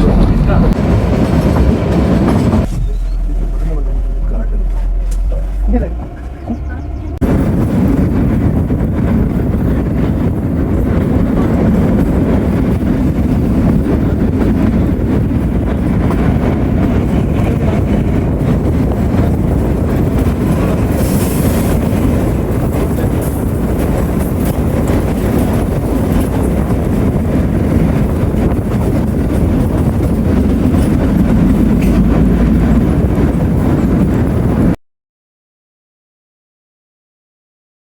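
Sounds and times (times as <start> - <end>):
train wheels rumbling on rails: 0.0 - 34.8.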